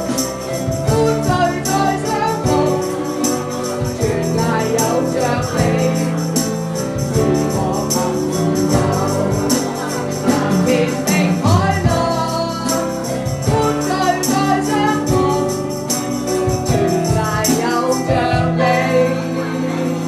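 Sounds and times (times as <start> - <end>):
accompaniment with steady beat: 0.0 - 20.0
singing voices: 0.0 - 20.0.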